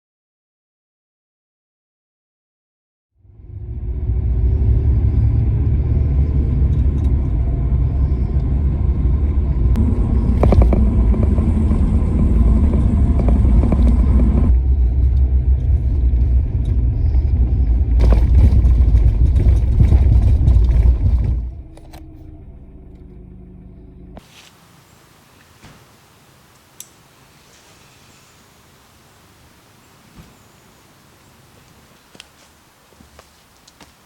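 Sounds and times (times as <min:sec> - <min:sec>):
car engine and road rumble: 0:03.2 - 0:34.0.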